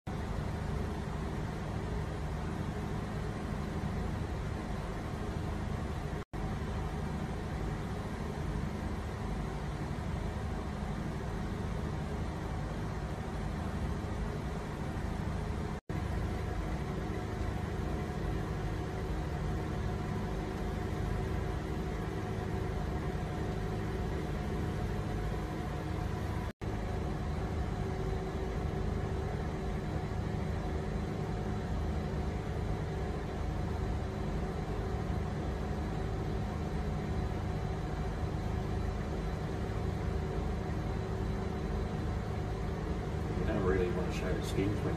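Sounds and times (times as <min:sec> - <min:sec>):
low mechanical hum with hiss: 0:00.1 - 0:44.9.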